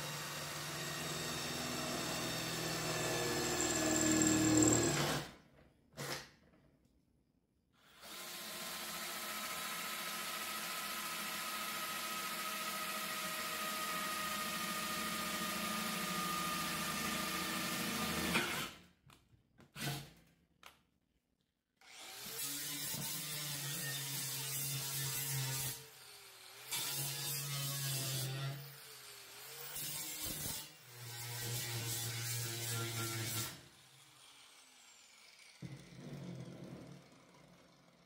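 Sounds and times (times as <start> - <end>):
power tool on sheet metal: 0.0 - 5.4, 7.9 - 18.8, 21.8 - 38.0.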